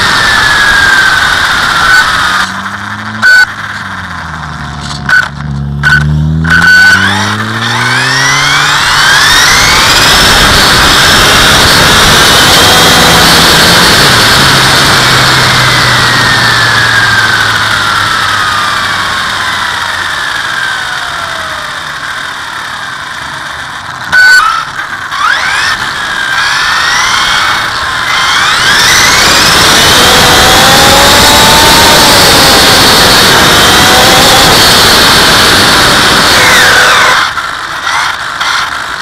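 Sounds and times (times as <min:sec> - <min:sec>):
electric motor whining: 0:00.0 - 0:39.0
rushing tyre and wind noise: 0:00.0 - 0:39.0.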